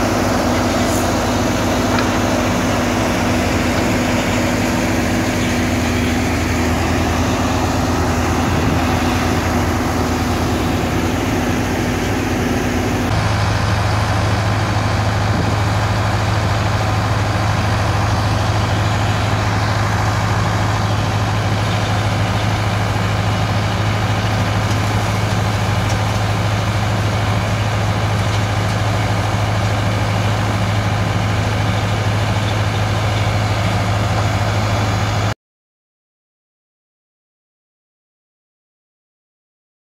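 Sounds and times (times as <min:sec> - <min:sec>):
screening machine drone: 0:00.0 - 0:35.2.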